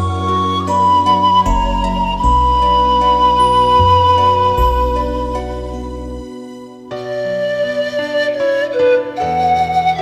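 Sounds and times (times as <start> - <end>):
flute playing slow melody: 0.0 - 10.0.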